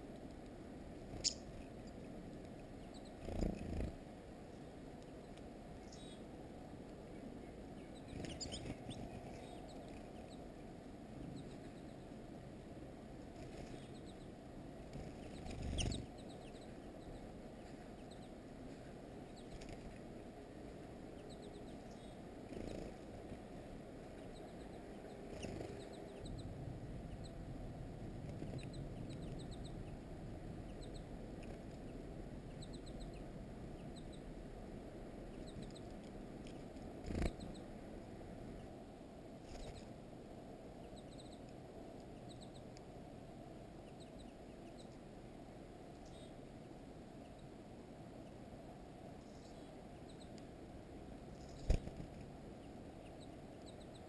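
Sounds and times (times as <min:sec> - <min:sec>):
low background rumble: 0:00.0 - 0:54.0
songbirds chipping: 0:00.0 - 0:54.0.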